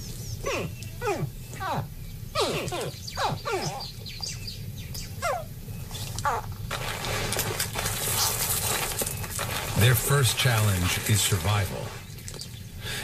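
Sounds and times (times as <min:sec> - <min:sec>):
crocodile hatchlings calling: 0:00.0 - 0:12.8.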